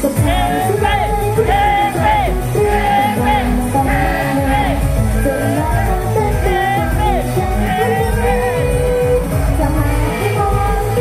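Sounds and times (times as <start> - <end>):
high female singing voices: 0.0 - 11.0
upbeat pop song: 0.0 - 11.0.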